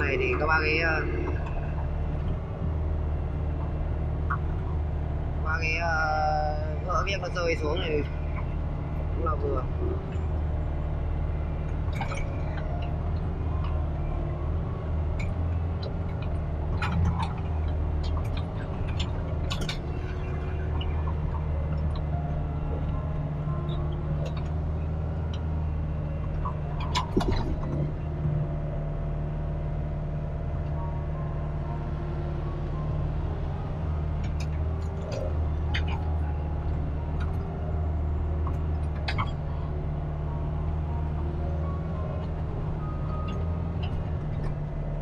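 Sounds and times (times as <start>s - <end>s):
excavator diesel engine running: 0.0s - 45.0s.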